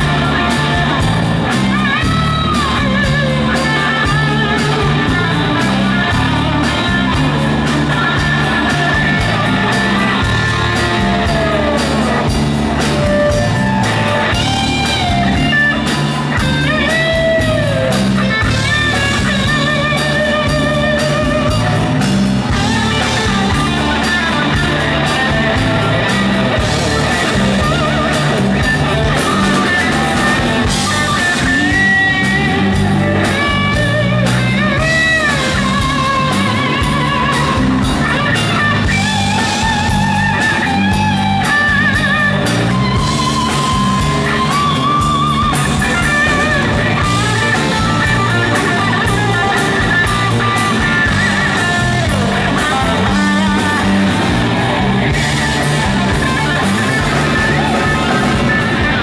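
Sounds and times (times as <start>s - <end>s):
bass guitar: 0.0s - 59.0s
drum kit: 0.0s - 59.0s
electric guitar solo: 0.0s - 59.0s.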